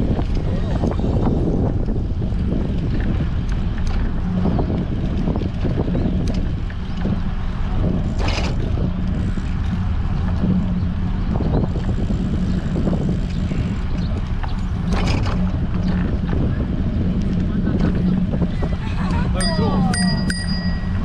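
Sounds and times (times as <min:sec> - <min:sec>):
low hum: 0:00.0 - 0:21.0
wind buffeting microphone: 0:00.0 - 0:21.0.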